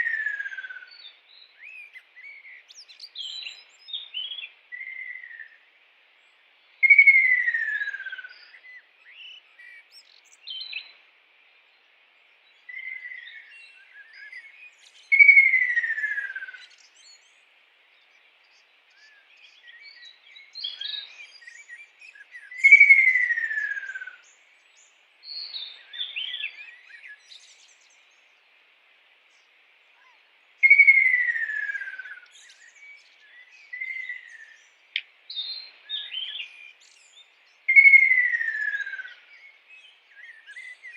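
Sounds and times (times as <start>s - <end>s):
faint steady hiss: 0.0s - 40.9s
soft bird chirps: 0.0s - 40.9s.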